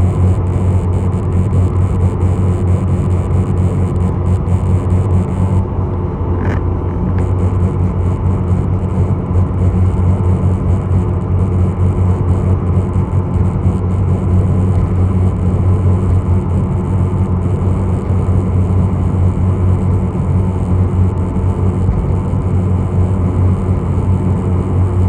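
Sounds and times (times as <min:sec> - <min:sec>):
faint high whine: 0:00.0 - 0:25.0
ship engine drone: 0:00.0 - 0:25.0.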